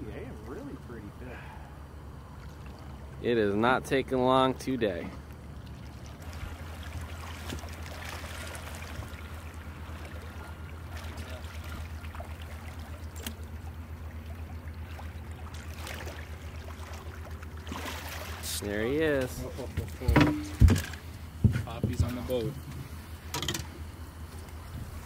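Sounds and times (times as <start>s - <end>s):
low throbbing hum: 0.0s - 25.0s
water splashing against boat: 0.0s - 25.0s.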